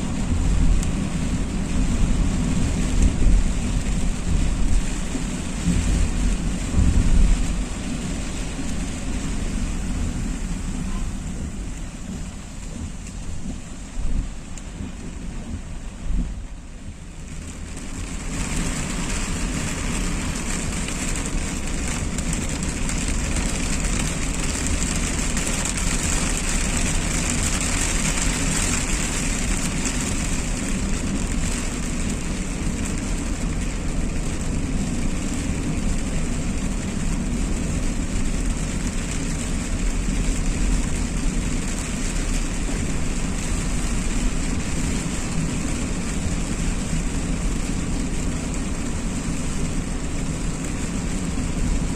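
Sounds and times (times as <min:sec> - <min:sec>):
car engine and road rumble: 0:00.0 - 0:51.9
rain and wet tyres hissing: 0:00.0 - 0:51.9.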